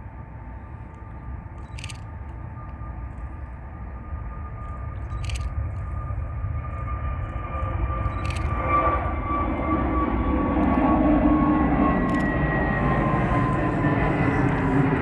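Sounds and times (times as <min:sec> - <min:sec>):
airliner engines passing: 0:00.0 - 0:15.0.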